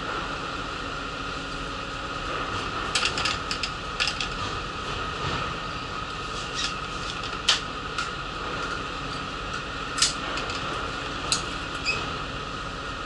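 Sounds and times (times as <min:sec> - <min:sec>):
bus interior hum: 0:00.0 - 0:13.0.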